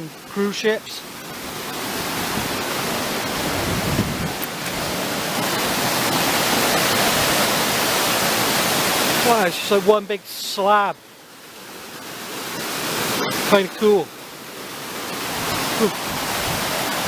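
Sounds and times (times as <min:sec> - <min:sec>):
waterfall water rushing: 0:00.0 - 0:17.0.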